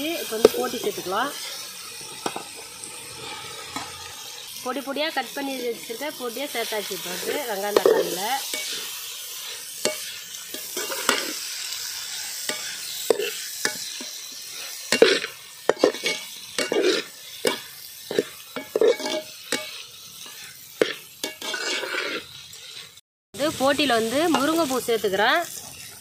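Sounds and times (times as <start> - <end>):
food sizzling in a metal pot: 0.0 - 26.0
metal ladle scraping a pot: 0.2 - 4.6, 5.2 - 23.0.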